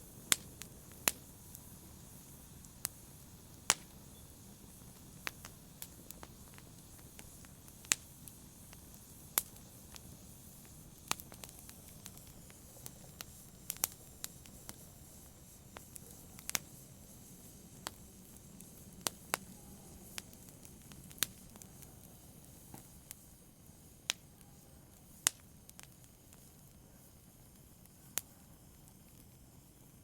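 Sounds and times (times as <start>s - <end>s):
sharp fire pops: 0.0s - 26.7s
low hiss of burning: 0.0s - 30.0s
wood fire crackling: 0.0s - 30.0s.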